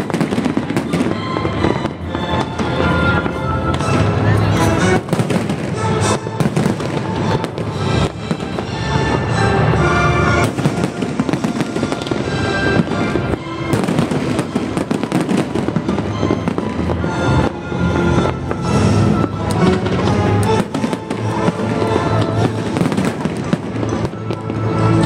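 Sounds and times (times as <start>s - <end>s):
fireworks bangs and crackles: 0.0s - 25.0s
loud music: 0.0s - 25.0s.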